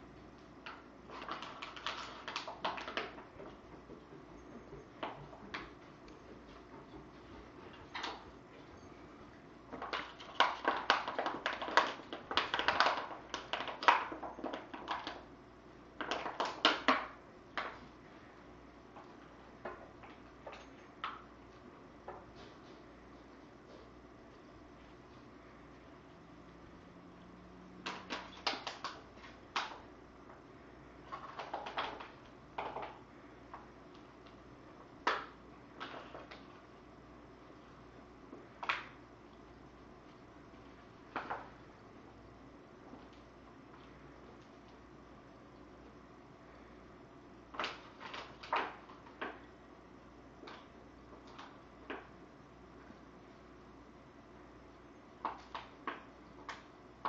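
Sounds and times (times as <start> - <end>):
faint steady low hum: 0.0 - 57.0.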